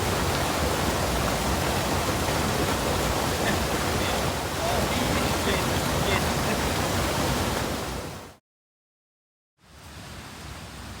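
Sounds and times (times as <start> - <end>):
mountain stream flowing: 0.0 - 8.4, 9.6 - 11.0.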